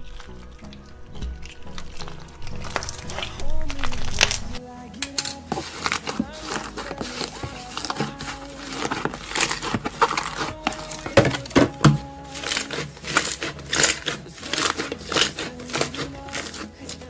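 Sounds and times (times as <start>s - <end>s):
quiet background music: 0.0s - 17.0s
slime crackling and crunching: 0.0s - 17.0s.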